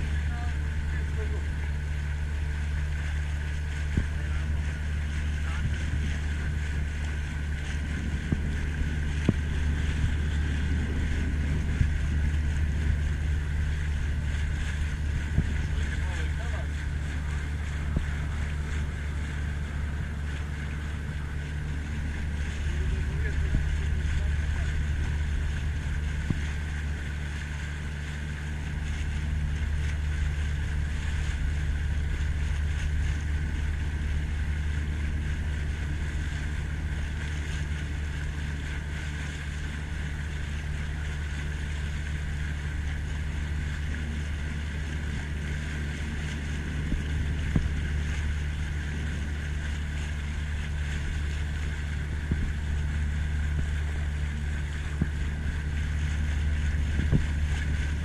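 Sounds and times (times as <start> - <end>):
boat motor running: 0.0 - 58.0
wind noise on microphone: 0.0 - 58.0.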